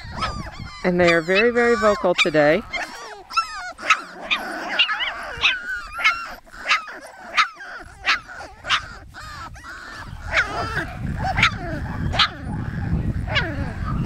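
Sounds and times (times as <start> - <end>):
puppies yipping and whining: 0.0 - 14.0.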